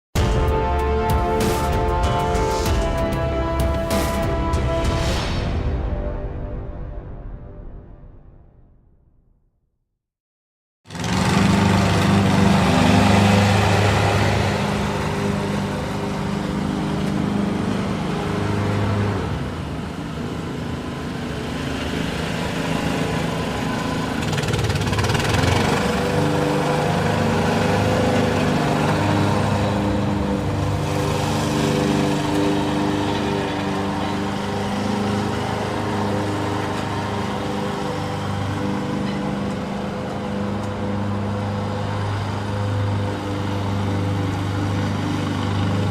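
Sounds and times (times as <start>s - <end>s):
lawn mower engine running: 0.2s - 5.0s, 10.9s - 45.9s.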